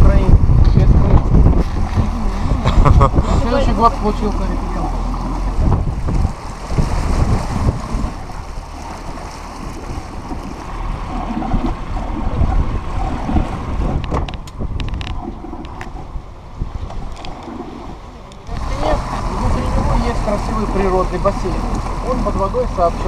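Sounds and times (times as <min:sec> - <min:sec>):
sea water rushing along hull: 0:00.0 - 0:23.0
wind buffeting microphone: 0:00.0 - 0:23.0.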